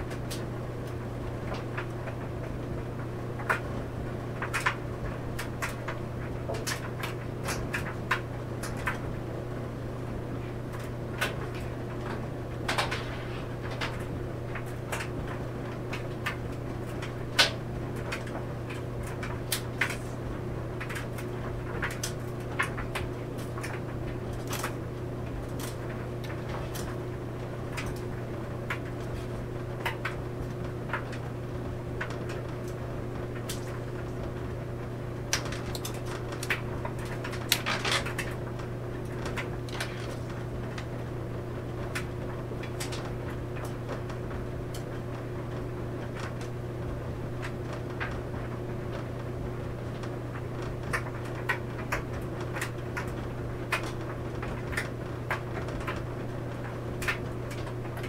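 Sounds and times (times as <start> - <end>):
clothes dryer humming: 0.0 - 58.0.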